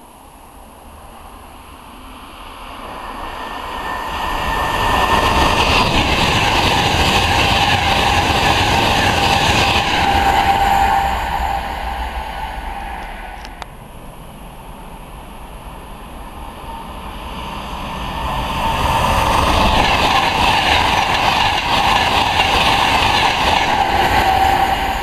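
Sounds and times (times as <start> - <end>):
train passing at speed: 0.0 - 25.0
train whine: 0.0 - 25.0.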